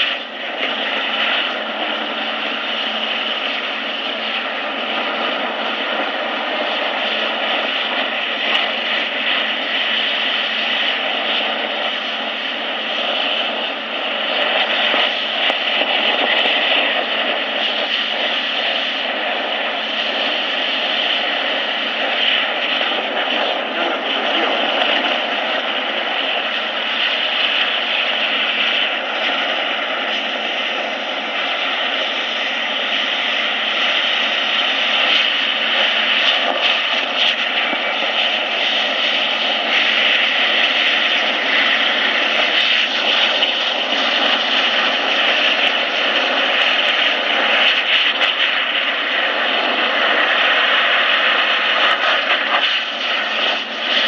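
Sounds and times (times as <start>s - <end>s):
mist cannon fan rushing: 0.0s - 54.0s.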